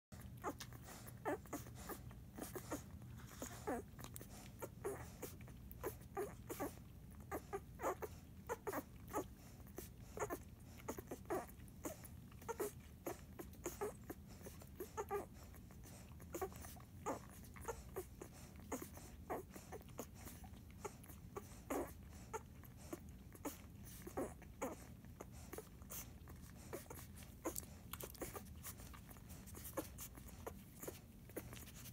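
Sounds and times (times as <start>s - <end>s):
puppies grunting: 0.1s - 31.9s.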